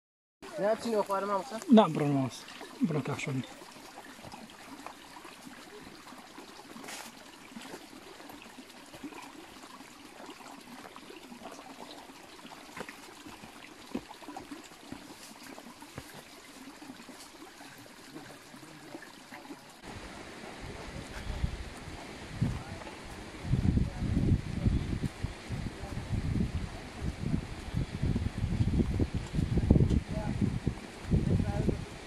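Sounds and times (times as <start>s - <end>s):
water trickling in a channel: 0.4s - 32.0s.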